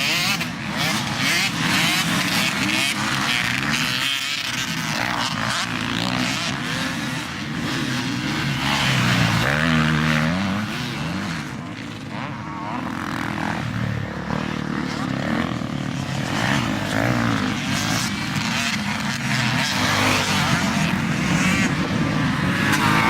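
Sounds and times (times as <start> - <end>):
motocross bikes revving: 0.0 - 23.0
motorcycle passing by: 0.0 - 23.0.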